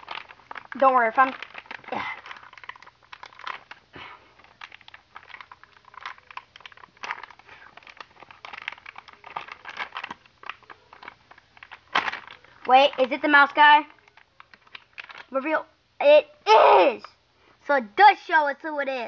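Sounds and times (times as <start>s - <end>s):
plastic packet crinkling: 0.0s - 15.6s.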